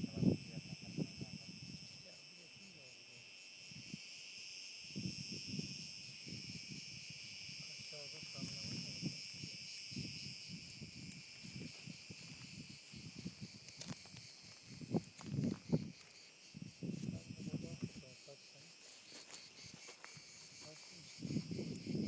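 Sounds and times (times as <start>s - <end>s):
shrill insect chorus: 0.0s - 22.0s.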